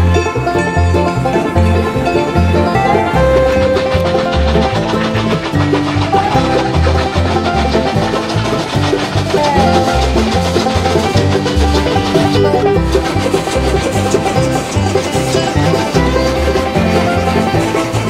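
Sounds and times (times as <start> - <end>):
lively instrumental music: 0.0 - 18.0.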